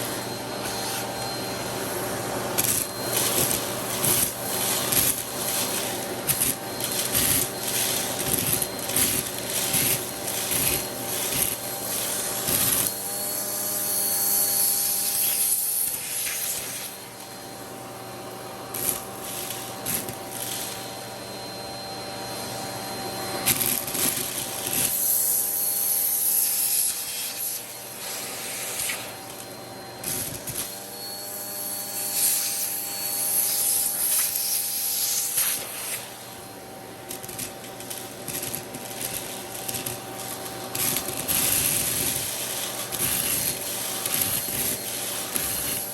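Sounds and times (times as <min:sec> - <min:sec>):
vacuum cleaner motor hum: 0:00.0 - 0:45.9
vacuum tool scraping and rattling: 0:00.0 - 0:45.9.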